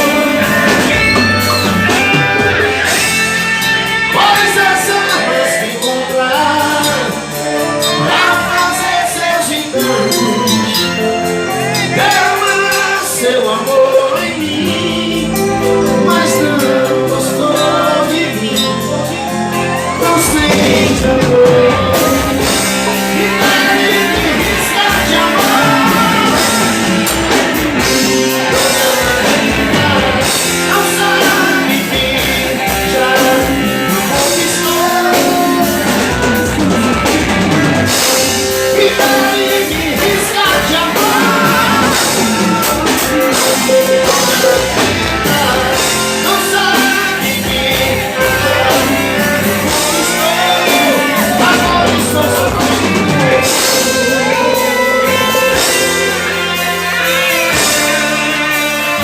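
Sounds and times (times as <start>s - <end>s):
drum kit: 0.0s - 59.0s
electric guitar: 0.0s - 59.0s
live band playing: 0.0s - 59.0s
person singing: 0.0s - 59.0s.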